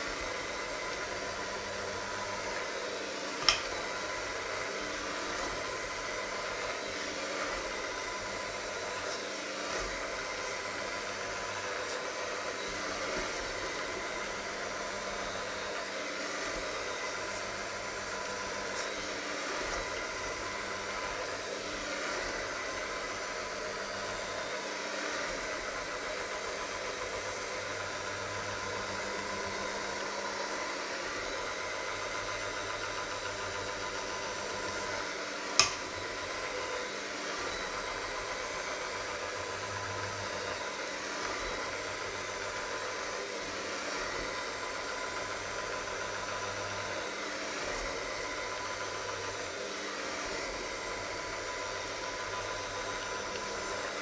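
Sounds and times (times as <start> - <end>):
electric hand mixer running: 0.0 - 54.0.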